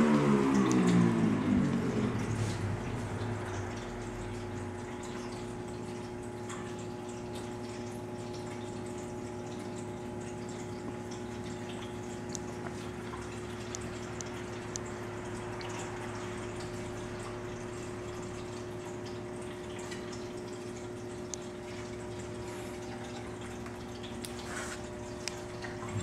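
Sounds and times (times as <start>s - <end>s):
electric appliance humming: 0.0s - 19.8s, 20.5s - 26.0s.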